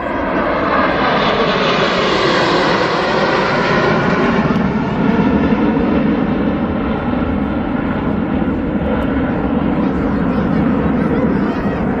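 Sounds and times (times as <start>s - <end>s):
jet engines rushing rumble: 0.0s - 12.0s.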